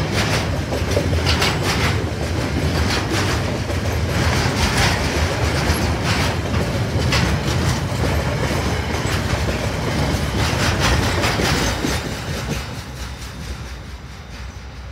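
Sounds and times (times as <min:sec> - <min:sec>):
wheel clacks on rails: 0:00.0 - 0:13.9
freight train rumbling past: 0:00.0 - 0:14.9.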